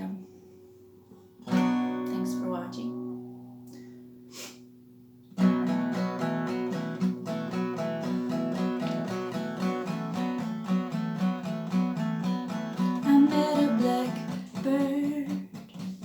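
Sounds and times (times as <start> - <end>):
acoustic guitar strumming: 0.6 - 16.0.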